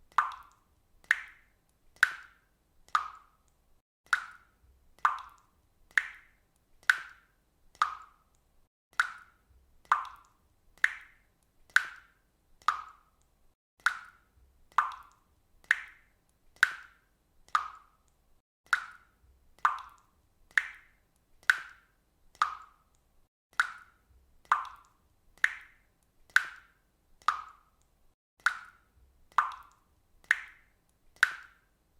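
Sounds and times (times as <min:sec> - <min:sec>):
water dripping: 0:00.0 - 0:31.9.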